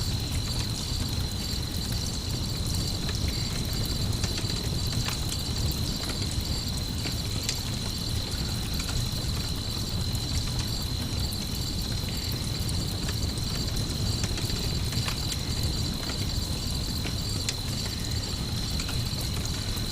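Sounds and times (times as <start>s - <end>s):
campfire rumble: 0.0s - 19.9s
crickets chirring: 0.0s - 19.9s
faint fire crackles: 0.0s - 19.9s.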